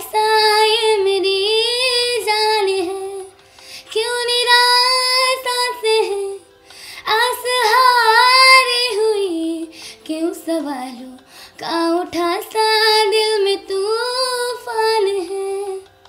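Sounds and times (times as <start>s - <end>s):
girl singing: 0.0s - 6.4s, 7.0s - 15.9s.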